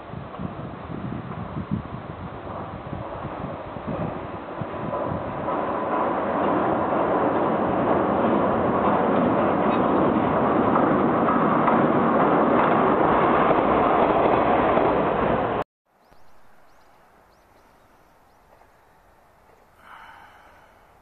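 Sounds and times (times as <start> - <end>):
railcar rumbling across bridge: 0.0 - 15.6, 16.3 - 21.0.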